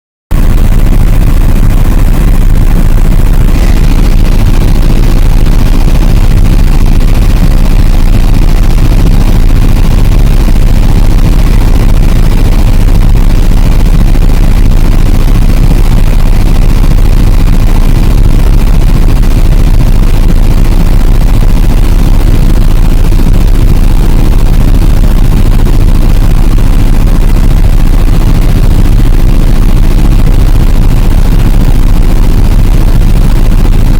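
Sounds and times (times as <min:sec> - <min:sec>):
helicopter engine and rotor drone: 0:00.3 - 0:33.9.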